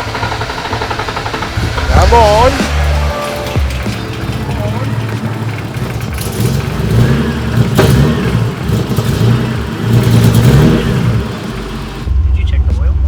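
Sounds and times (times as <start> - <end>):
car engine revving unevenly: 0.0 - 12.7.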